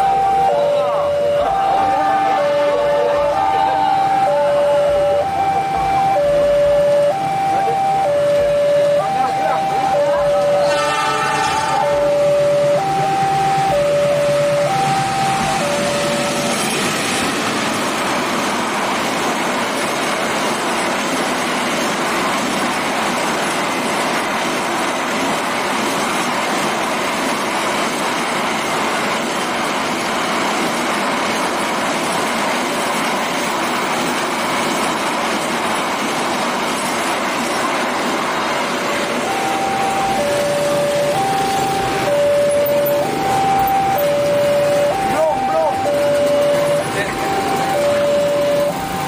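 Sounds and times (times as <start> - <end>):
freight train wheels rumbling: 0.0 - 49.0
level crossing warning alarm: 0.0 - 49.0.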